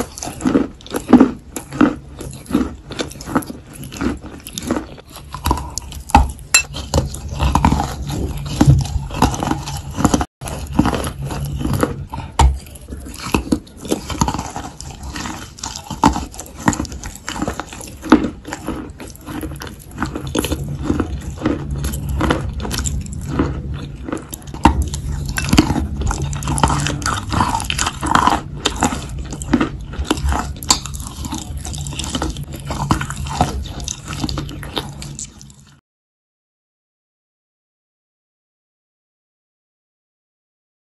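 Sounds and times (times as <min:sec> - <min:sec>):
low steady hum: 0:00.0 - 0:35.8
mouth chewing and crunching chalk: 0:00.0 - 0:35.8.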